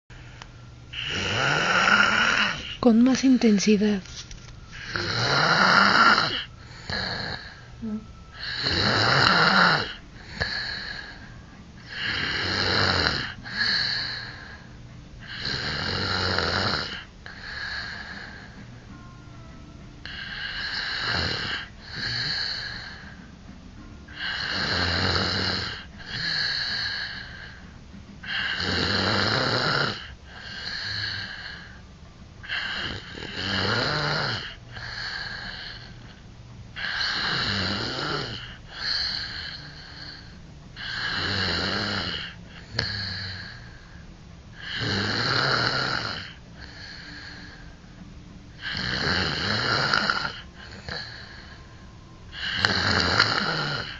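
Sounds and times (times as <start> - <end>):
person snoring heavily: 0.9 - 2.8, 4.7 - 18.7, 20.0 - 23.3, 24.1 - 31.8, 32.4 - 36.1, 36.8 - 47.8, 48.5 - 51.7, 52.3 - 53.9.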